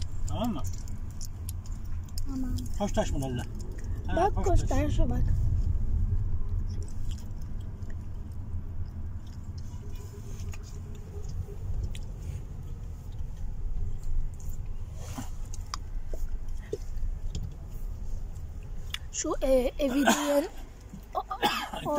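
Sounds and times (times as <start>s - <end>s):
car engine and tyre rumble: 0.0s - 21.9s.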